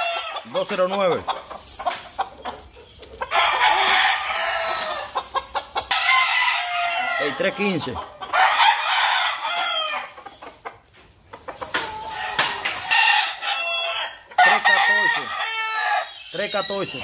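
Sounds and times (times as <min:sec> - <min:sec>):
chicken clucking: 0:00.0 - 0:17.0
roosters crowing: 0:00.0 - 0:17.0.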